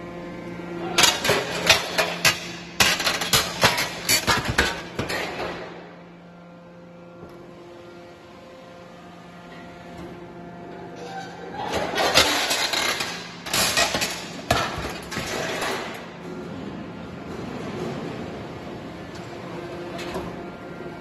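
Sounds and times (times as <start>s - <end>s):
hydraulic power unit hum: 0.0s - 21.0s.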